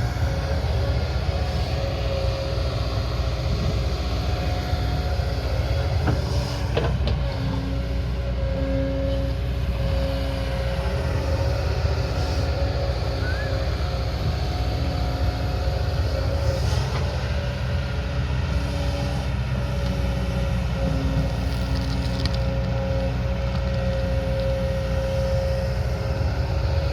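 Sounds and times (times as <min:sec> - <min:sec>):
diesel engine of heavy machine: 0:00.0 - 0:26.9
steady mechanical whine: 0:00.0 - 0:26.9.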